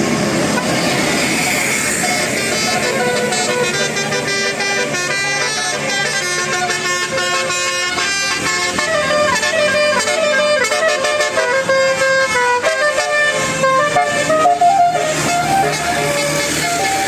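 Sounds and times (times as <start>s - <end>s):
bus air horns playing a tune: 0.5s - 17.0s.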